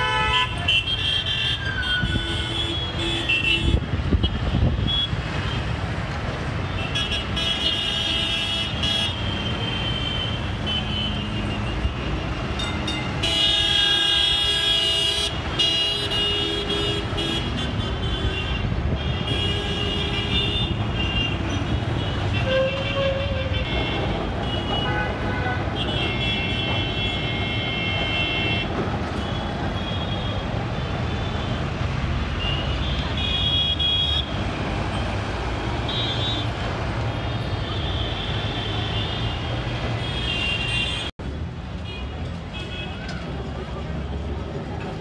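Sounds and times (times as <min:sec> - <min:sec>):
car and bus horns honking: 0:00.0 - 0:05.8, 0:06.7 - 0:30.4, 0:32.3 - 0:41.2
traffic rumble: 0:00.0 - 0:45.0.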